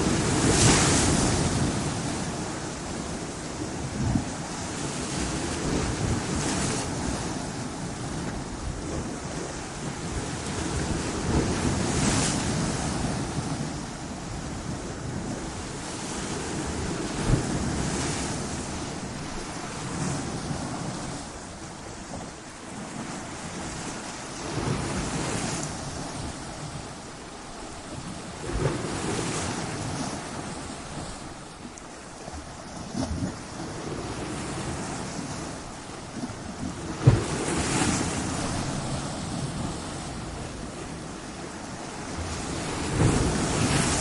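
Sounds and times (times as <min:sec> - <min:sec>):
waves crashing on rocks: 0:00.0 - 0:44.0.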